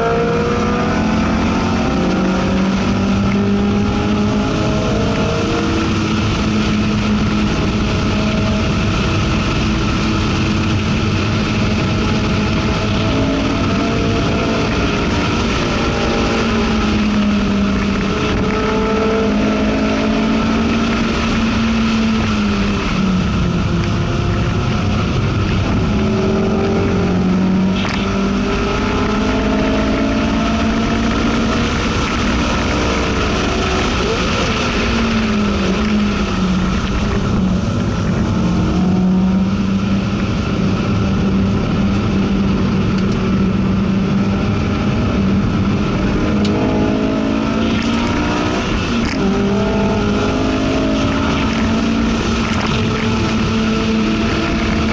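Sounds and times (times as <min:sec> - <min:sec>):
car engine revving: 0:00.0 - 0:54.9
road and wind noise: 0:00.0 - 0:54.9.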